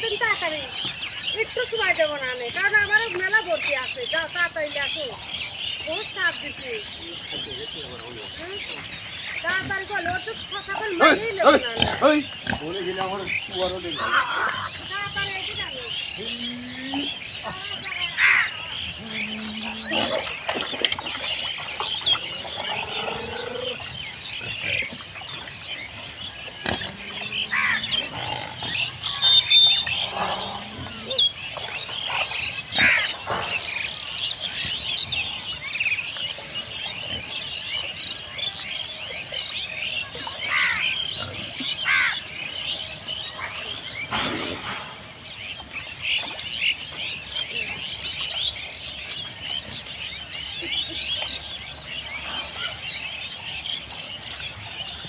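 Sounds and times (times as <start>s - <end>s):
animal calls and grunts: 0.0s - 55.0s
small birds chirping: 0.0s - 55.0s.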